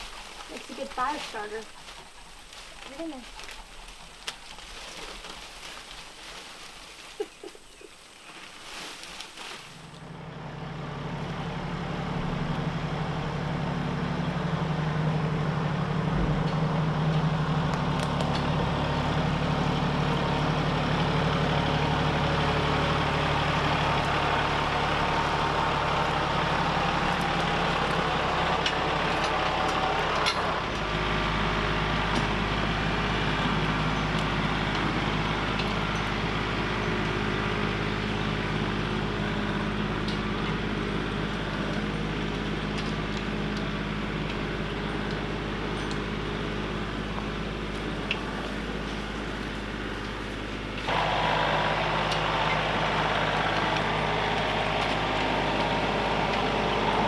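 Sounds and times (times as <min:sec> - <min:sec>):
motor vehicle engine: 0:00.0 - 0:57.0.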